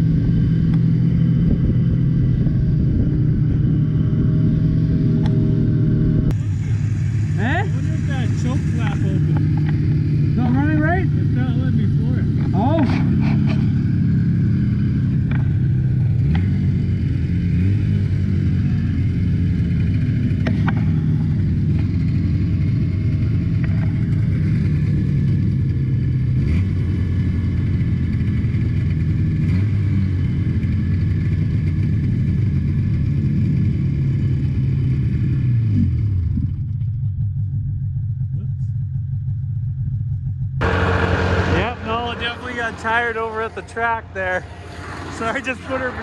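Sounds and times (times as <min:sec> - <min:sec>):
snowmobile engine idling: 0:00.0 - 0:46.0.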